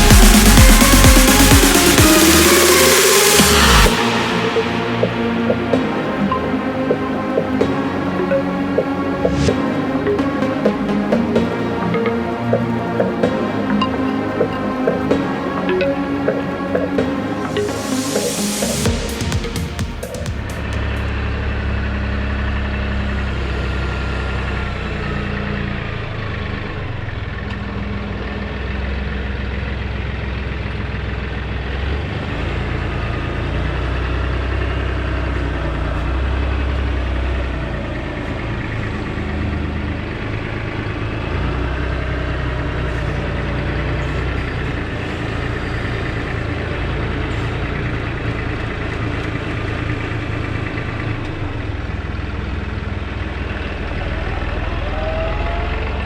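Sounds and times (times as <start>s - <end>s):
tractor engine running: 0.0s - 54.8s.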